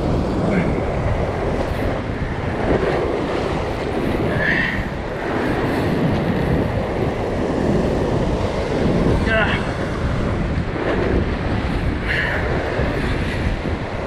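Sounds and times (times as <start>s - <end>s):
ocean surf against rocks: 0.0s - 14.0s
wind buffeting microphone: 0.0s - 14.0s.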